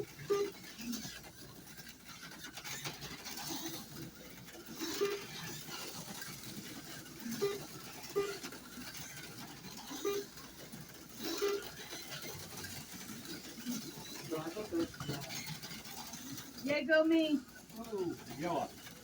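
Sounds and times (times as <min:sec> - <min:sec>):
slot car motors buzzing: 0:00.0 - 0:19.0.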